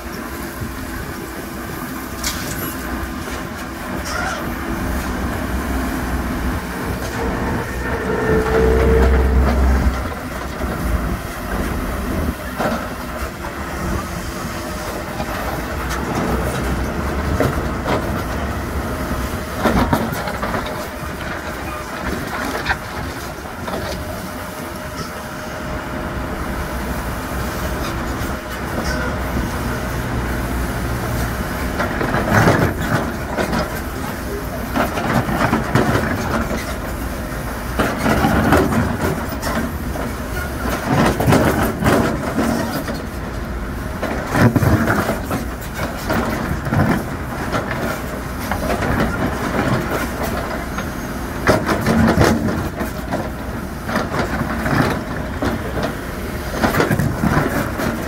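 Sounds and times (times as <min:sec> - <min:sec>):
diesel construction machine running: 0:00.0 - 0:58.0.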